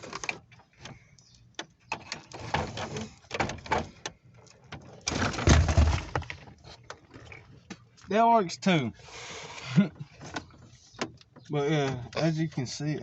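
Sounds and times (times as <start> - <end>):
car radio clicks and rattles: 0.0 - 7.9, 9.8 - 13.0.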